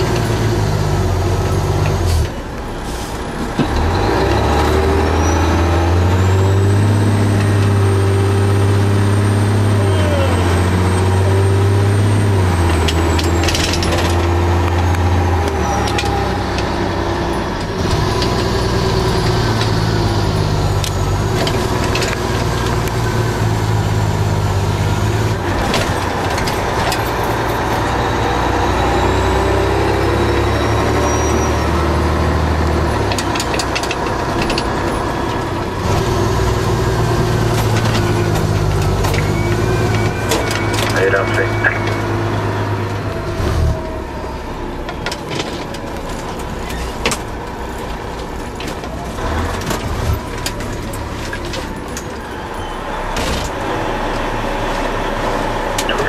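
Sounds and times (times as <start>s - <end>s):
diesel engine running: 0.0s - 56.0s
road noise: 0.0s - 56.0s.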